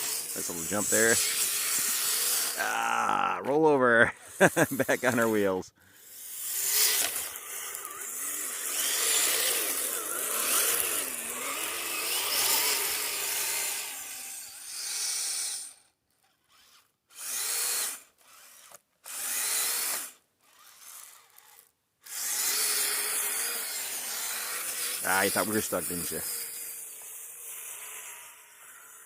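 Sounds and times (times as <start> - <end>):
electric motor whining: 0.0 - 3.2, 6.0 - 29.0.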